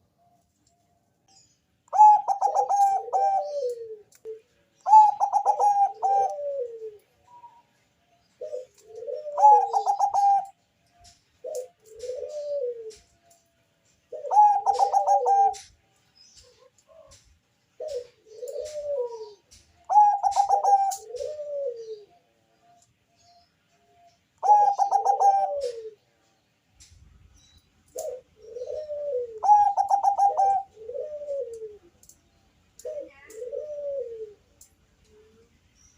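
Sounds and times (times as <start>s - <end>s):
dove cooing song: 0.0s - 26.3s, 27.4s - 35.6s.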